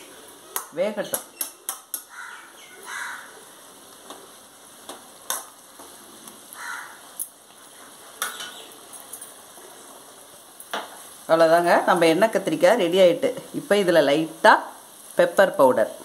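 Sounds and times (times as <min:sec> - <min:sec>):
curry sizzling: 0:00.0 - 0:16.0.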